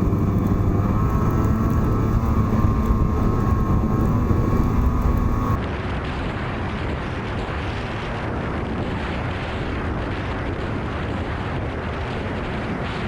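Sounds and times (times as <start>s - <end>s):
snowmobile engine drone: 0.0s - 13.0s
wind noise: 0.0s - 13.0s.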